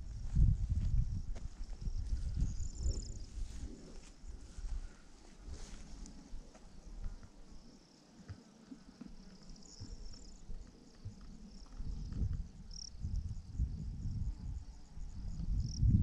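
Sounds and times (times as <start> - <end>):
wind buffeting microphone: 0.0 - 7.2, 9.8 - 16.0
insects chirping chorus: 0.0 - 16.0.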